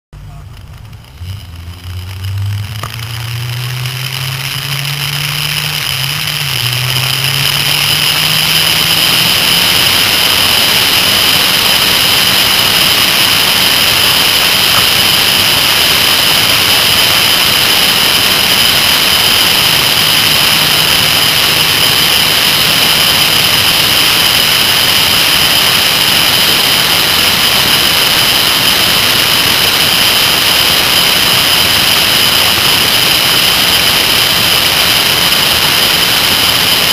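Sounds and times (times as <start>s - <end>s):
motorcycle engine revving: 0.1s - 36.9s
steady high whine: 0.1s - 36.9s
wind noise: 0.2s - 36.9s.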